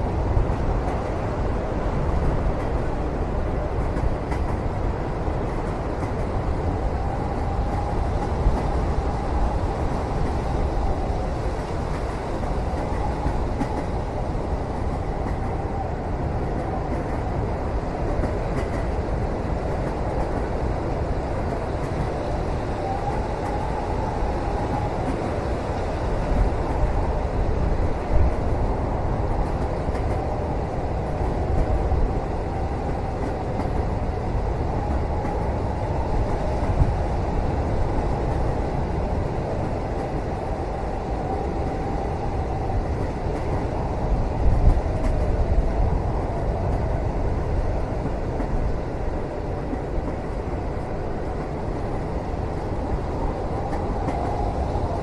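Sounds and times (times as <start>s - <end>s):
moving train rumble: 0.0s - 55.0s.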